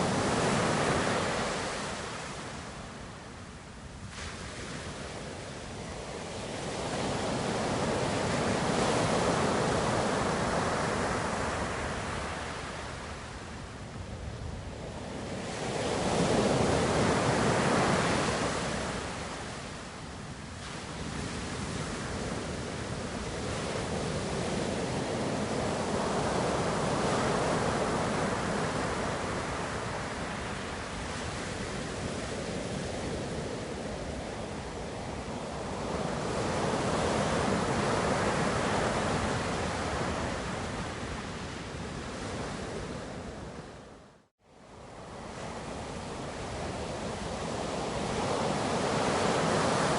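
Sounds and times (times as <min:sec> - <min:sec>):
ocean waves breaking on shore: 0:00.0 - 0:44.0, 0:44.6 - 0:49.9.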